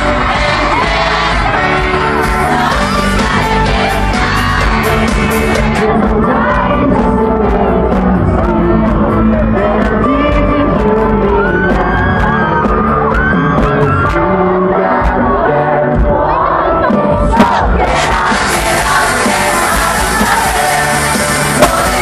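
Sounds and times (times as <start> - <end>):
fans screaming and shouting: 0.0 - 22.0
live pop band with singing: 0.0 - 22.0.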